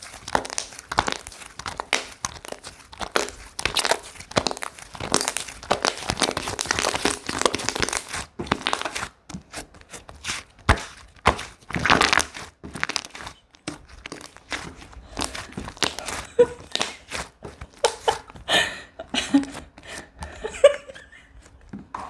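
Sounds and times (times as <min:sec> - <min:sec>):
slime squished by hand: 0:00.0 - 0:18.5.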